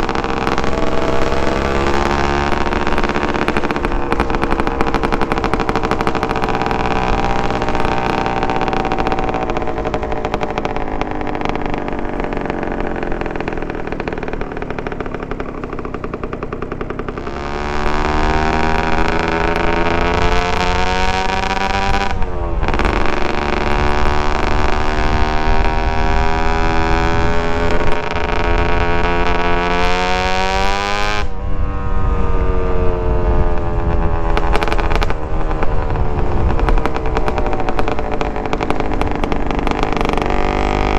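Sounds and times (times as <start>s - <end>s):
motorcycle two-stroke engine revving: 0.0s - 40.9s.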